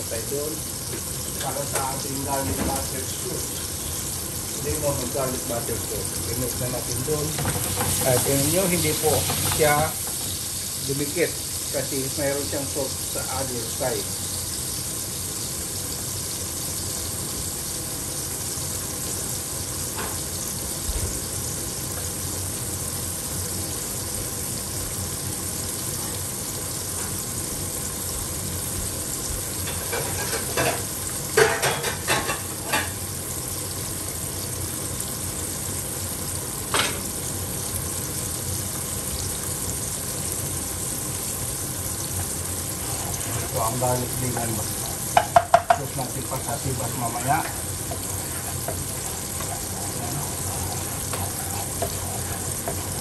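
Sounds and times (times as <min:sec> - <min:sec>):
fish sizzling in oil: 0:00.0 - 0:53.0.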